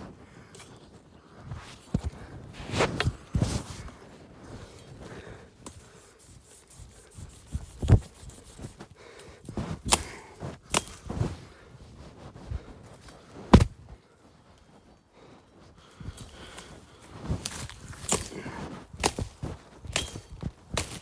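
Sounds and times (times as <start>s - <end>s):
rustling and scraping plants: 0.0s - 21.0s.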